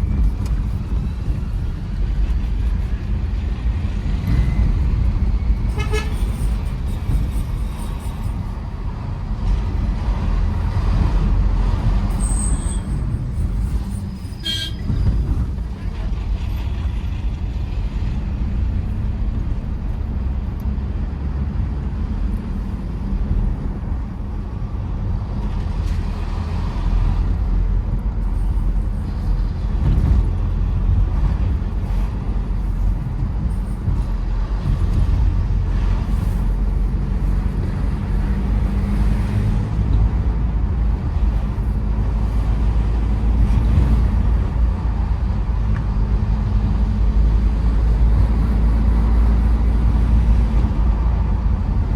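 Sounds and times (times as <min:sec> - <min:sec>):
engine and tyre rumble: 0:00.0 - 0:51.9.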